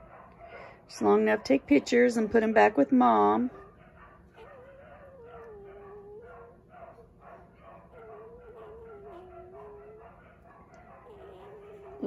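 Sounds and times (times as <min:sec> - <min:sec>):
puppy whining: 0:01.4 - 0:12.0.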